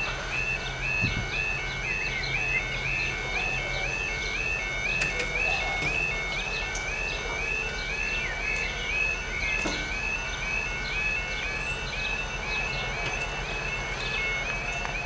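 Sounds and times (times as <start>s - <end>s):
level crossing warbling alarm: 0.0s - 15.0s.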